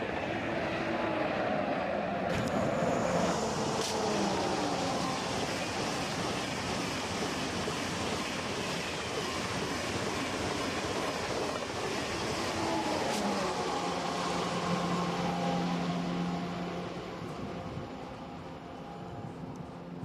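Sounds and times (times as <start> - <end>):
high-speed train passing: 0.0 - 20.0.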